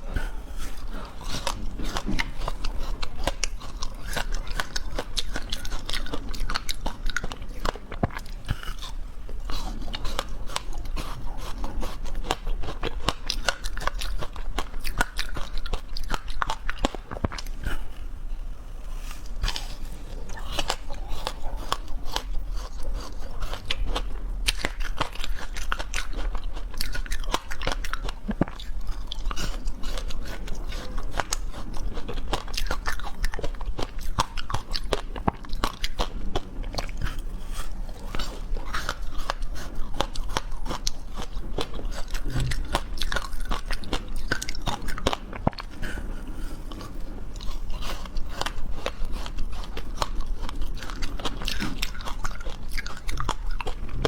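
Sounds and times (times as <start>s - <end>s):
chewing and crunching: 0.0s - 54.0s.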